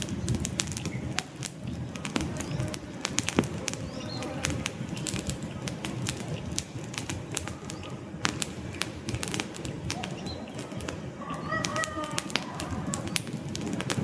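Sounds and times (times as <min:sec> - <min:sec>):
low rumble of flames: 0:00.0 - 0:14.0
wood fire popping and snapping: 0:00.0 - 0:14.0.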